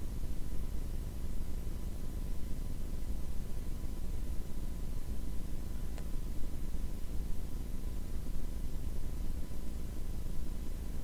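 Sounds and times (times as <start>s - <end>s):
room noise rumble with hiss: 0.0s - 11.0s.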